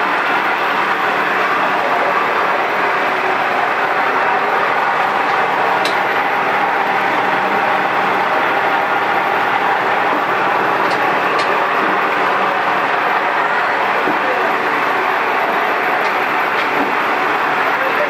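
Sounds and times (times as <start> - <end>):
steady machine noise: 0.0 - 18.0.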